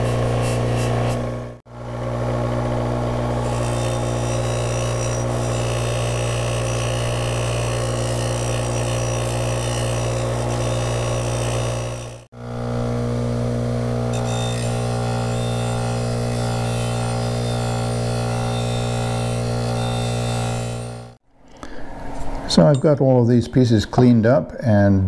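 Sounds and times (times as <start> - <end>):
bench grinder motor humming: 0.0 - 21.2.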